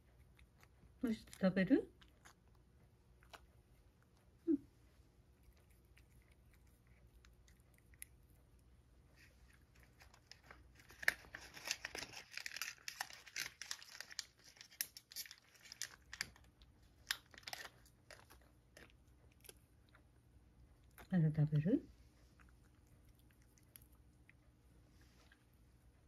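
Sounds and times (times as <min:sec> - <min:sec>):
cat crunching dry treats: 0:00.0 - 0:04.3, 0:05.3 - 0:21.1, 0:22.2 - 0:24.5.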